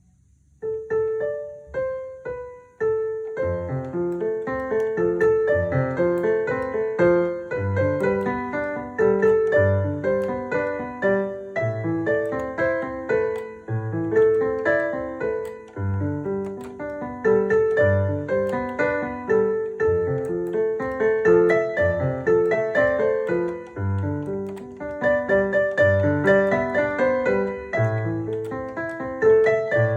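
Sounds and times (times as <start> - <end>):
synthesizer piano pop cover: 0.6 - 29.9.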